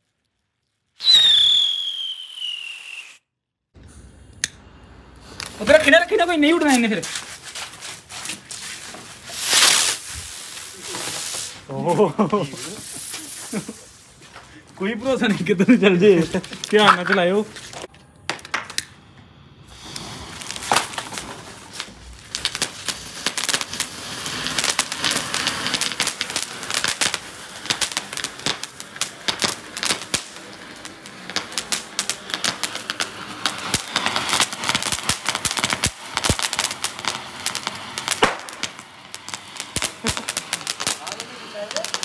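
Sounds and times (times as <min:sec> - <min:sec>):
firework fountains hissing and crackling: 0:00.0 - 0:03.2, 0:03.8 - 0:42.0.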